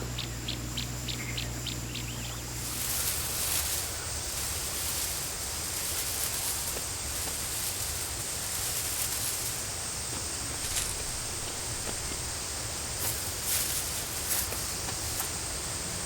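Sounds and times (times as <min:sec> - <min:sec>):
background hiss: 0:00.0 - 0:16.0
high-pitched insect drone: 0:00.0 - 0:16.0
faint rustling: 0:02.5 - 0:15.4.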